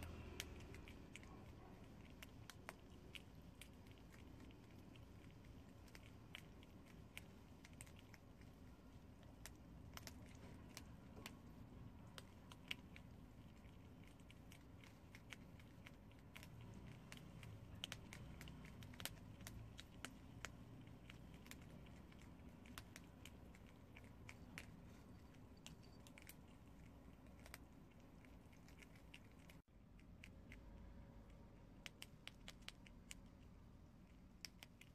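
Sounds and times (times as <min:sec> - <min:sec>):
animals crunching dry noodles: 0:00.0 - 0:30.8.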